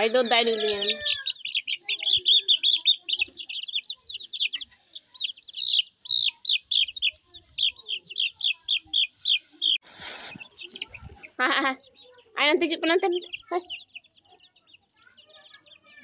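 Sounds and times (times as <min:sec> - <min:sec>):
chick peeping: 0:00.0 - 0:16.0.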